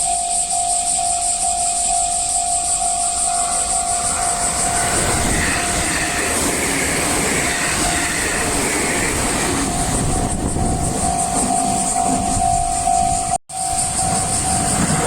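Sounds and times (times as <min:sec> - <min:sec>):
level crossing warning bell ringing: 0:00.0 - 0:15.0
train rushing past: 0:02.1 - 0:15.0.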